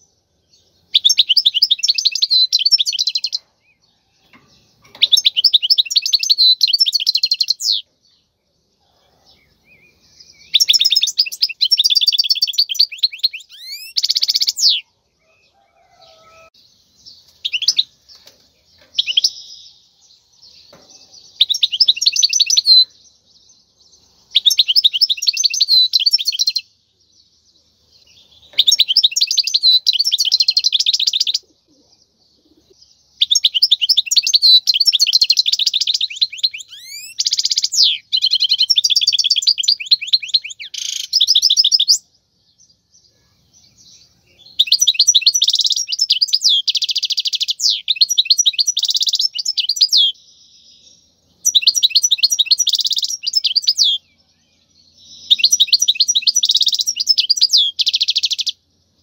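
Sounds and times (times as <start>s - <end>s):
goldfinch singing: 0.5s - 7.9s, 9.4s - 14.8s, 15.7s - 19.8s, 20.5s - 26.7s, 28.0s - 31.8s, 32.4s - 42.0s, 43.9s - 50.2s, 50.8s - 58.6s.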